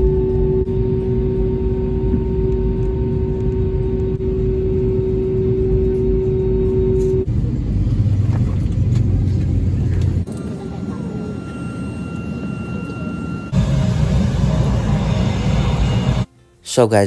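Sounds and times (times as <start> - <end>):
aircraft cabin rumble: 0.0 - 16.3
humming tone: 0.0 - 16.3.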